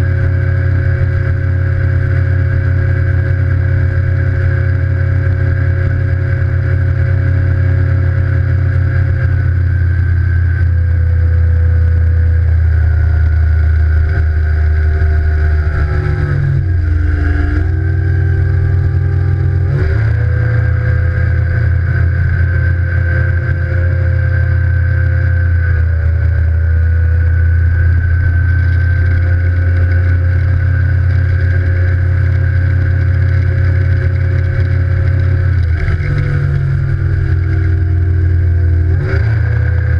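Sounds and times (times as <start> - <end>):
outboard engine running: 0.0 - 39.9.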